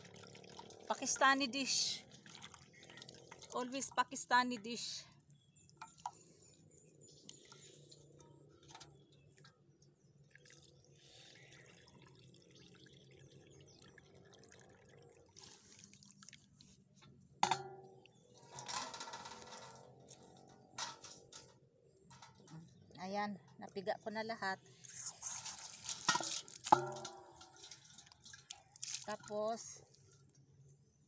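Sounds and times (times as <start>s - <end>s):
juice dripping into metal basin: 0.0s - 23.9s, 25.3s - 30.7s.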